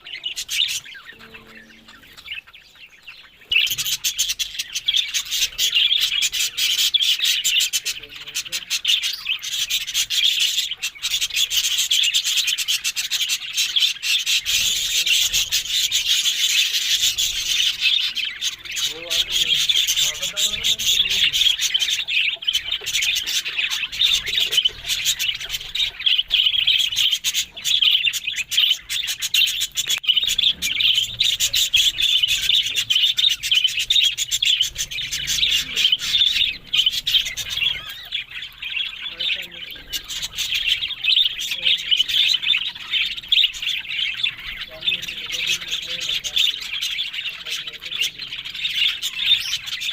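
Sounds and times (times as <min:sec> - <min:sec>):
budgerigars chirping: 0:00.0 - 0:49.9.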